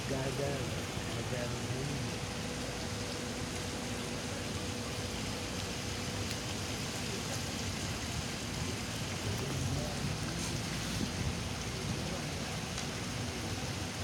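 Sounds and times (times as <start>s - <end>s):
aerators spraying water: 0.0s - 14.0s
faint steady hum: 0.0s - 14.0s.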